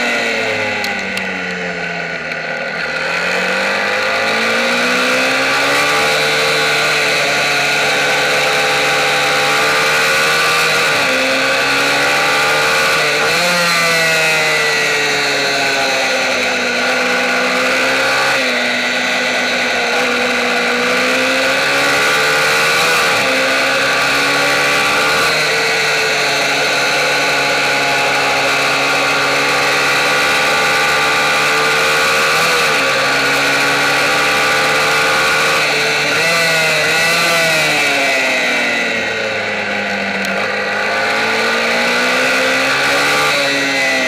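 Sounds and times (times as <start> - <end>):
motorcycle engine at high revs: 0.0 - 44.0.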